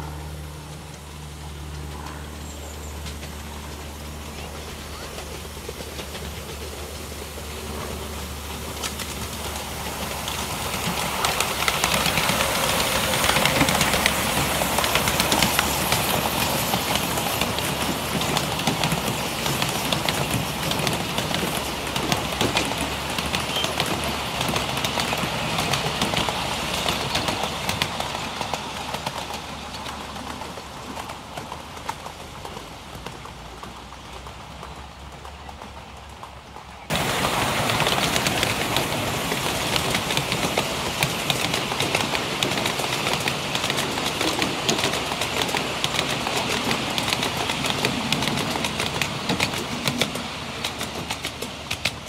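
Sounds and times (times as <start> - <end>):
miniature steam train passing: 0.0 - 52.0
wheels clicking over rail joints: 0.0 - 52.0.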